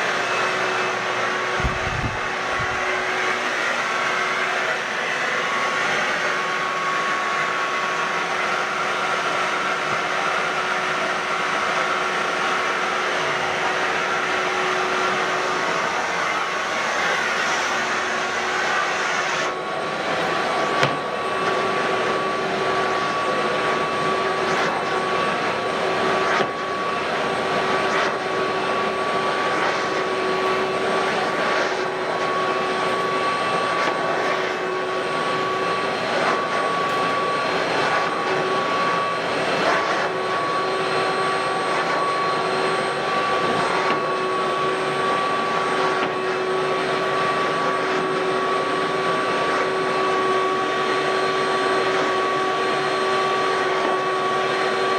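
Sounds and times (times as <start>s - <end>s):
shop vacuum running: 0.0s - 54.9s.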